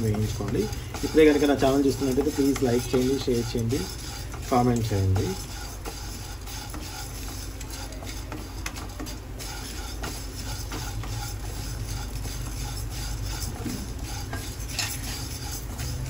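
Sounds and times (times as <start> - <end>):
steady low hum: 0.0 - 16.0
wooden spatula scraping a pan: 0.0 - 16.0.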